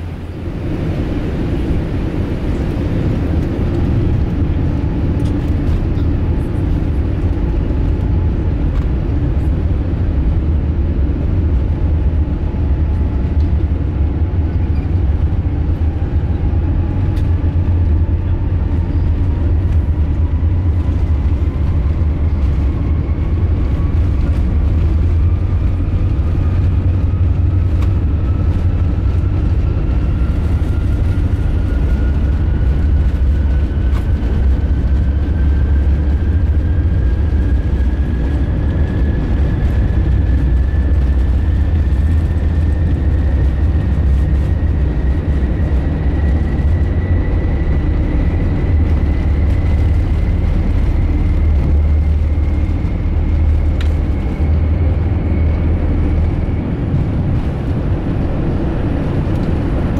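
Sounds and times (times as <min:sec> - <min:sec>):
jet engines deep rumble: 0:00.0 - 0:59.9.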